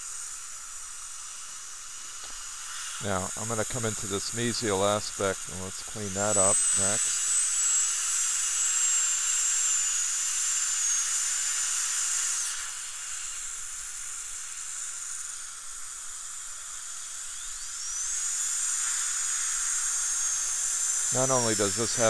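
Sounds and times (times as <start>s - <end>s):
dental drill whining: 0.0s - 22.0s.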